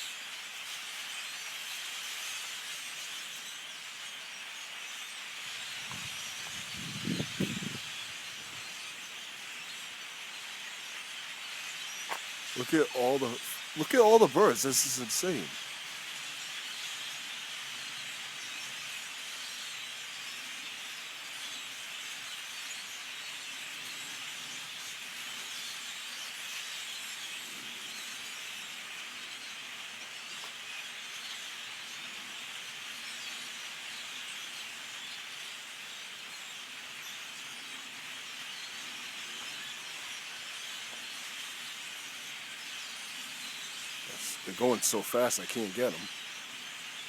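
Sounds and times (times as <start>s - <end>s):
large flock of birds chattering: 0.0s - 47.0s.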